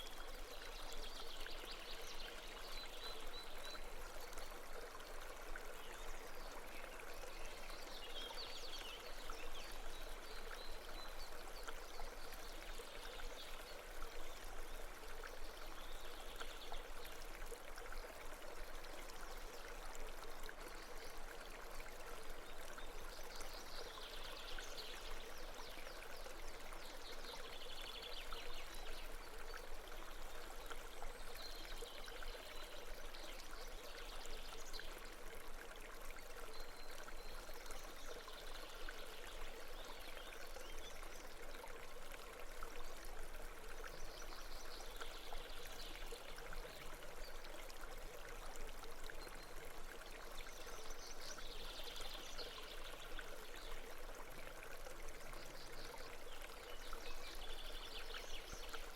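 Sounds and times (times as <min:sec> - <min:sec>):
stream babbling: 0:00.0 - 0:58.9.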